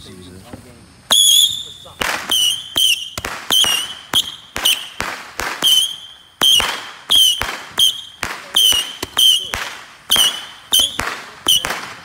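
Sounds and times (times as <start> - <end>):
fireworks whistling: 0.4 - 12.0
fireworks bangs: 1.1 - 12.0.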